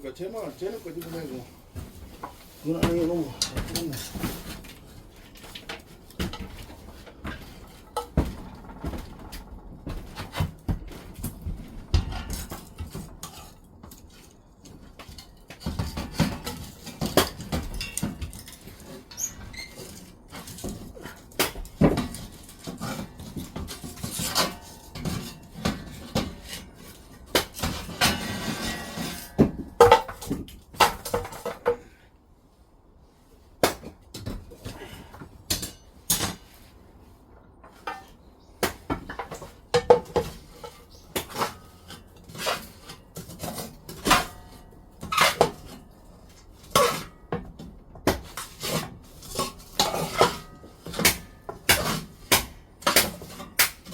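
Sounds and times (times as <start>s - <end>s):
objects knocking and clattering: 1.0s - 32.0s, 37.5s - 53.9s.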